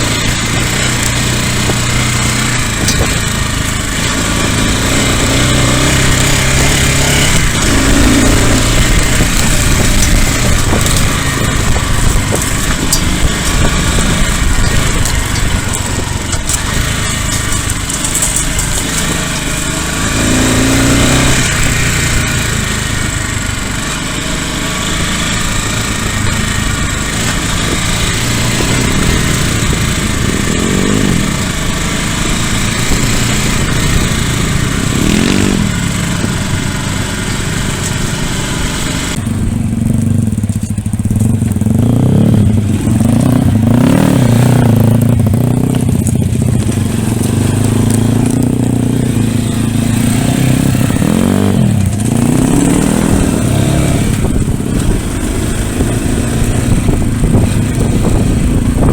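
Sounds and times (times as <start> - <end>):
motorbike engine revving: 0.0 - 58.9.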